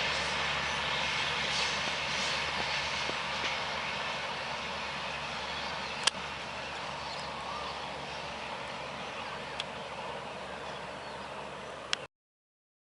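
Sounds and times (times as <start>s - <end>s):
passing train rushing: 0.0s - 12.0s.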